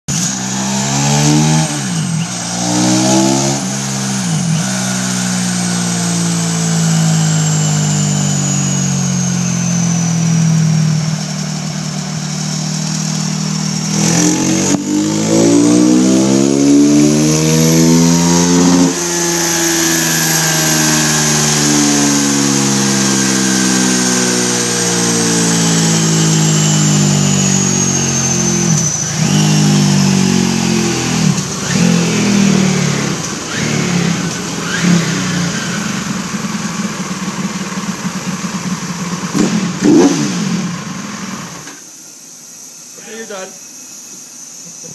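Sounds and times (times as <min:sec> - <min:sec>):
engine revving: 0:00.1 - 0:41.7
high whine: 0:00.1 - 0:41.8.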